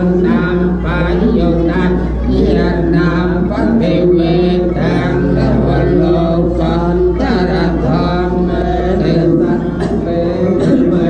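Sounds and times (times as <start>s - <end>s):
person chanting: 0.0s - 11.0s
steady low hum: 0.0s - 11.0s.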